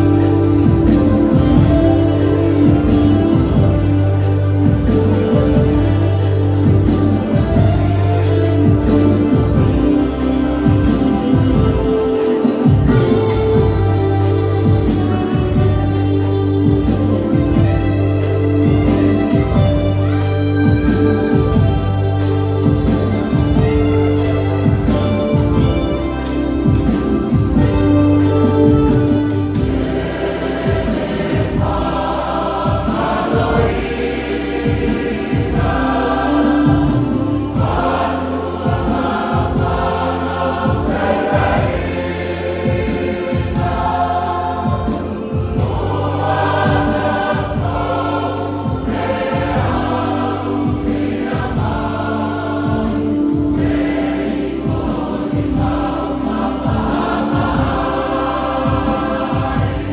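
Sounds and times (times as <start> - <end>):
choir singing a hymn: 0.0 - 59.9
held low notes: 0.0 - 59.9
regular beat: 0.0 - 59.9.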